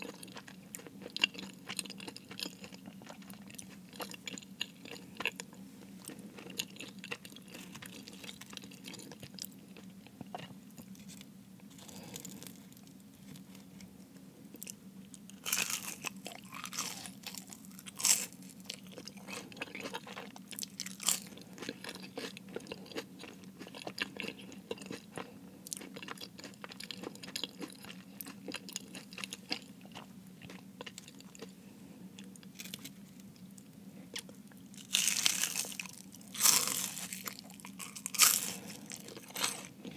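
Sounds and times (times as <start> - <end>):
chewing crackling pastry: 0.0 - 39.9.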